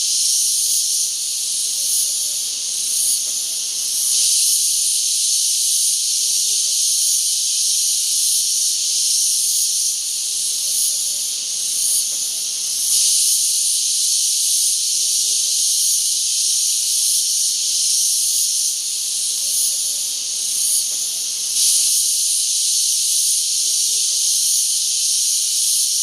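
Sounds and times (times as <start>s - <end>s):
cicadas buzzing chorus: 0.0s - 26.0s.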